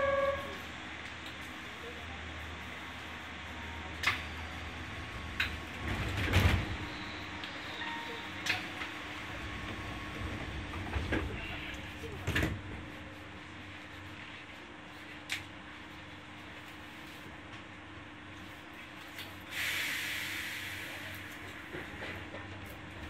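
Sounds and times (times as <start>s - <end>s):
train running rumble and hum: 0.0s - 23.0s.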